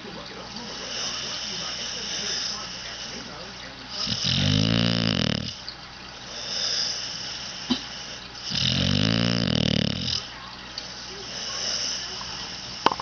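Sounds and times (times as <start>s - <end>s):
soft hissing breath: 0.0s - 13.0s
dog snoring: 0.5s - 10.4s, 11.0s - 13.0s.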